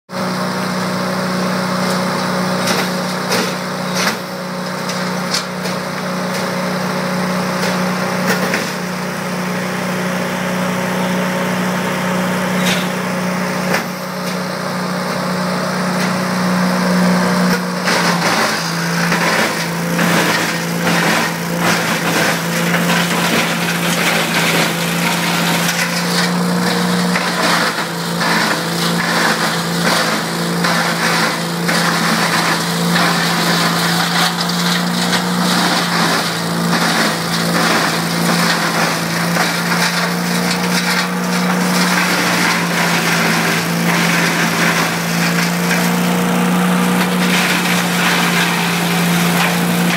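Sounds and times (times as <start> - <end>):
wood chipper engine running: 0.1 - 49.9.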